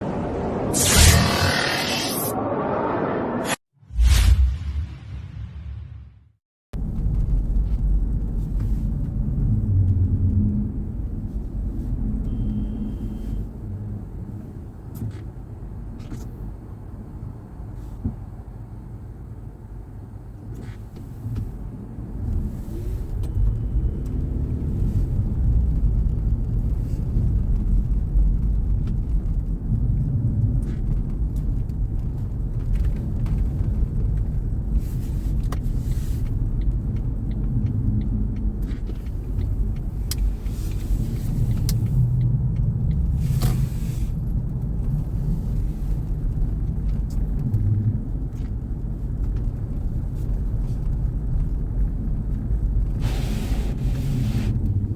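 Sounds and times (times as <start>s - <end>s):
car engine and tyre rumble: 0.0s - 3.6s, 6.7s - 54.9s.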